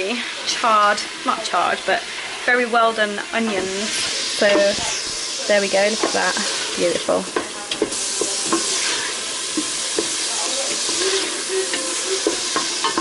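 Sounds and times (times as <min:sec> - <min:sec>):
meat and onions sizzling: 0:00.0 - 0:13.0.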